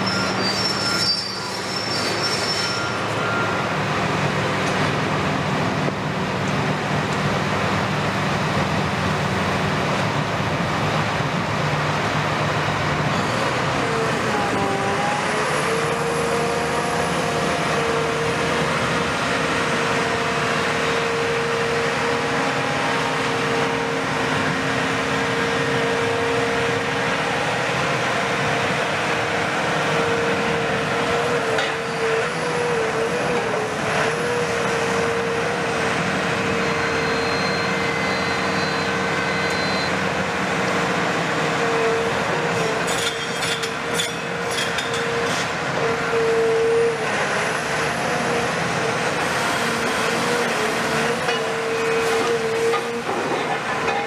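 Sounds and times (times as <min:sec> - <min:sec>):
excavator diesel engine drone: 0:00.0 - 0:54.0.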